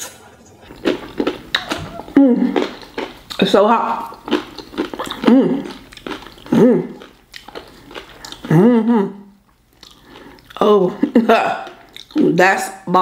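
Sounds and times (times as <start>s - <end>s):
woman chewing crunchy chips: 0.2s - 12.4s.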